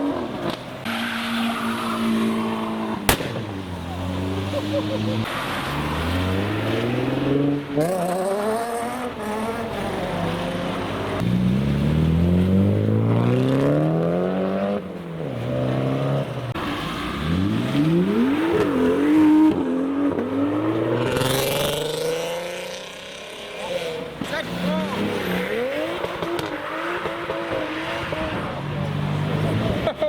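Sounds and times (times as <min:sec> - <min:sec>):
cars accelerating hard: 0:00.0 - 0:30.0
engines revving with gear changes: 0:00.0 - 0:30.0.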